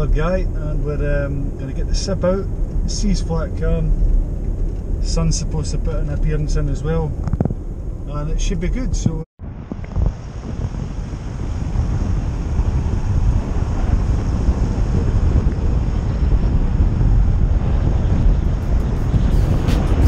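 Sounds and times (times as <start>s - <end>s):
wind buffeting microphone: 0.0s - 8.0s, 8.7s - 20.0s
road rumble: 0.0s - 20.0s.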